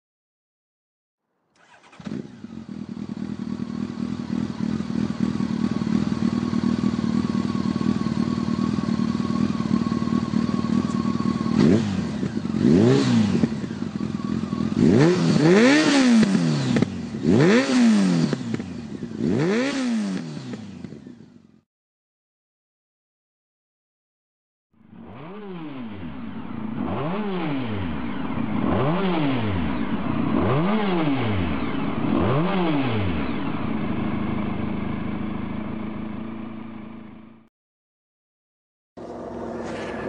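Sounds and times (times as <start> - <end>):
motorcycle engine idling and revving: 1.6 - 21.7, 24.8 - 37.5, 39.0 - 40.0.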